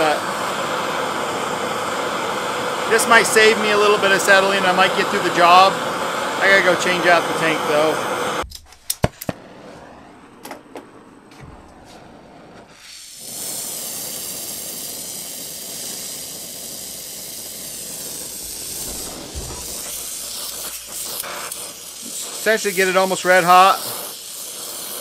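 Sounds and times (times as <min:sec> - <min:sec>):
gas torch flame hissing: 0:00.0 - 0:25.0.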